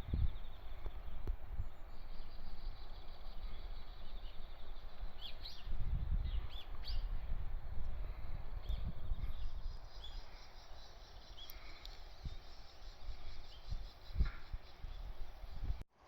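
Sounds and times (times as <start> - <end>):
bird chirps: 0.0 - 15.8.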